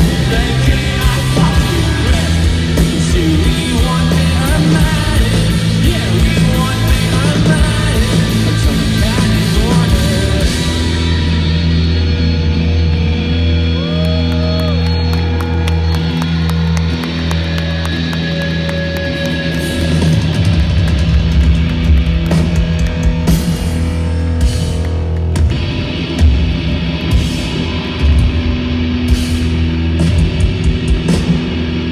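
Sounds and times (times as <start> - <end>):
rock music with electric guitars: 0.0 - 31.9.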